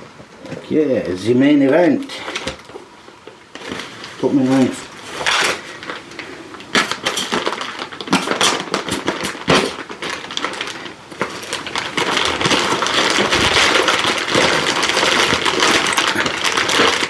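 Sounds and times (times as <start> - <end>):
packing material rustling: 0.4 - 17.0.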